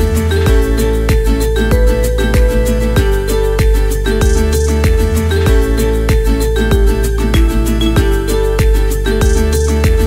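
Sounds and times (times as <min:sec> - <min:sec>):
music with drums and bass: 0:00.0 - 0:10.0.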